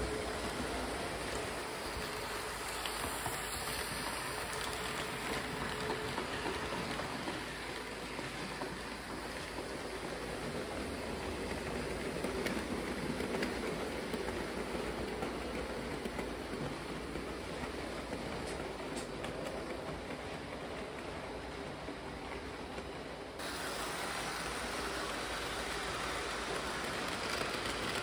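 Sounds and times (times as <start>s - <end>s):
model train wheels rattling: 0.0s - 23.5s, 24.2s - 28.0s.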